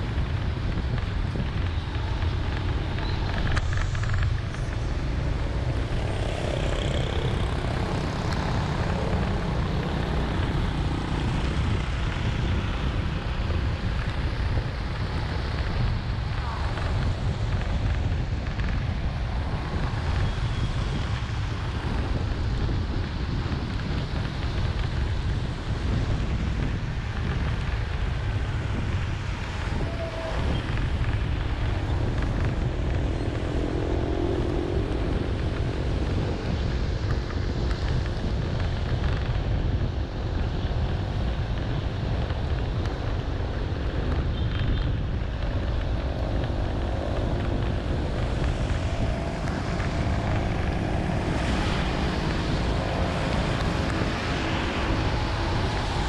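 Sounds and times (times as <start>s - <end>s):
vehicles passing: 0.0s - 56.0s
wind rumble on microphone: 0.0s - 56.0s.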